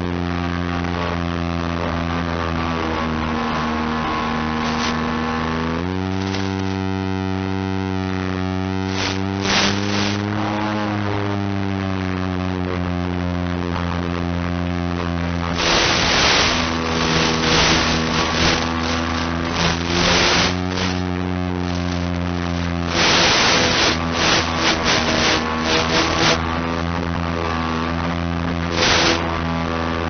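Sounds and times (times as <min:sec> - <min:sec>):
steady buzzing hum: 0:00.0 - 0:30.0
radio static hissing: 0:00.7 - 0:12.6, 0:13.2 - 0:30.0.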